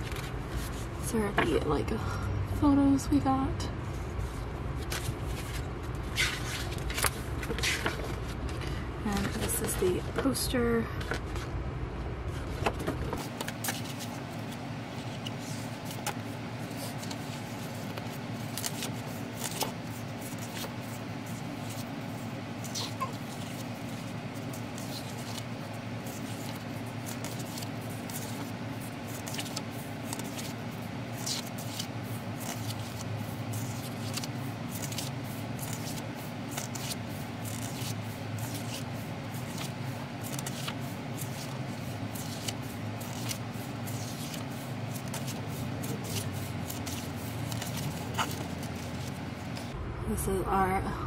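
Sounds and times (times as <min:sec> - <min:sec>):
pages turning: 0:00.0 - 0:00.9, 0:04.0 - 0:10.3, 0:12.3 - 0:49.8
low background hum: 0:00.0 - 0:51.0.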